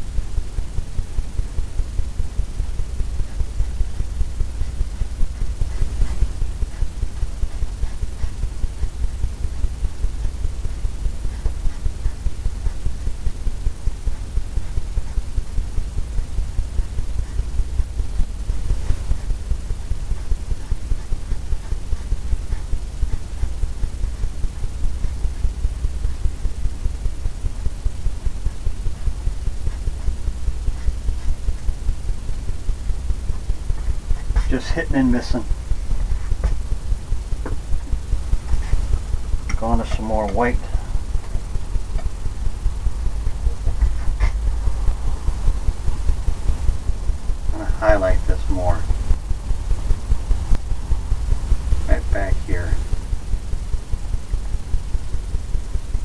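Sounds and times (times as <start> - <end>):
low rumble with uneven throb: 0.0 - 56.0.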